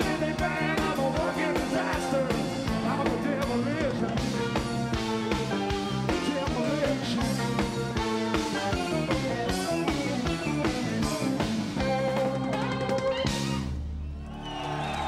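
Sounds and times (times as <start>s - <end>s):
drum kit beat: 0.0s - 13.8s
electric guitar: 0.0s - 13.8s.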